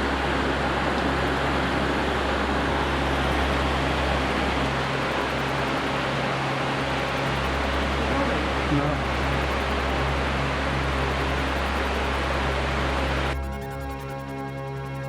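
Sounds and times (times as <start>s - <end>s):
low hum: 0.0s - 15.0s
steady rushing noise: 0.0s - 15.0s.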